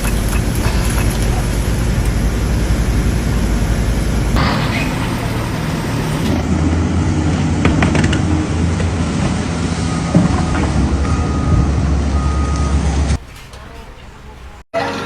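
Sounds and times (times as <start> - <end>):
heavy machinery rumbling: 0.0 - 14.6.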